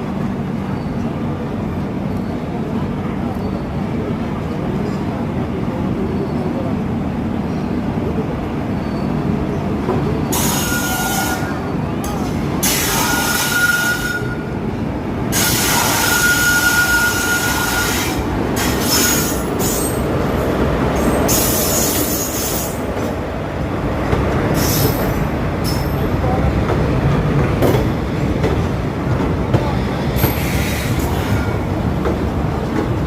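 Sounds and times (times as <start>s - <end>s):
train wheels rushing on rails: 0.0s - 33.0s.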